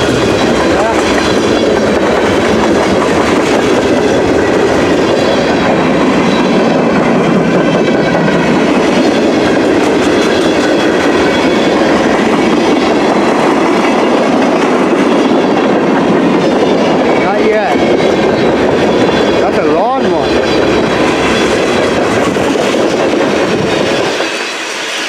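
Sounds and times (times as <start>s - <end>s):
freight train cars rolling past: 0.0s - 25.0s.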